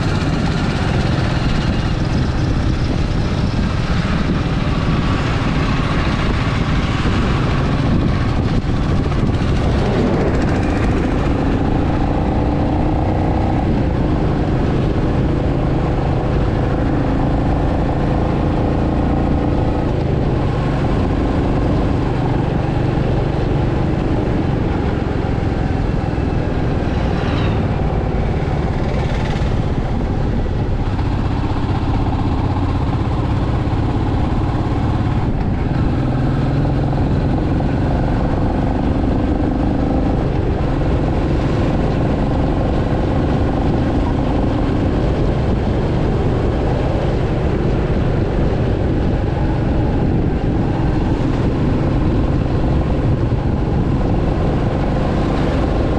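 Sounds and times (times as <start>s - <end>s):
motorcycle exhaust cruising: 0.0s - 55.9s.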